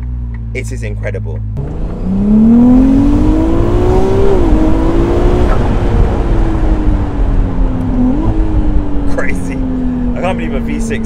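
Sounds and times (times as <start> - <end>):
car engine accelerating: 0.0 - 11.0
wind and road noise: 0.0 - 11.0.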